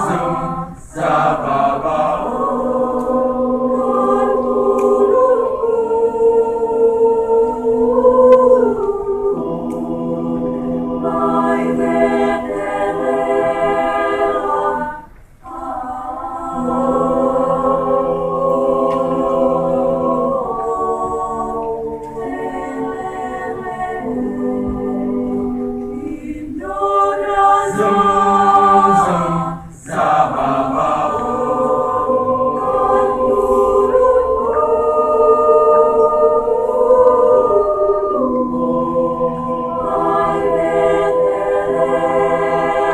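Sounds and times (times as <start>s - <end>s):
choir singing held chords: 0.0s - 42.9s.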